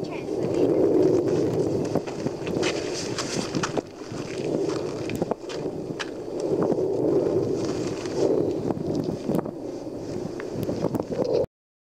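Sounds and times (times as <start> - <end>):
volcano rumbling roar: 0.0 - 11.5.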